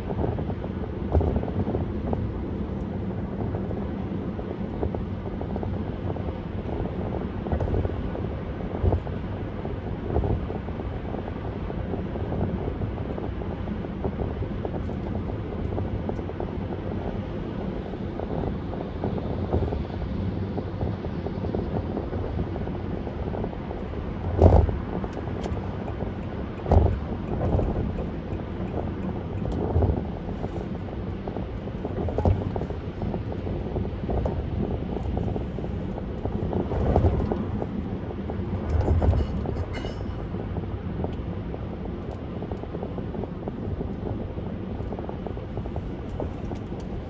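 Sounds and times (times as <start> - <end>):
car road and wind noise: 0.0 - 47.0.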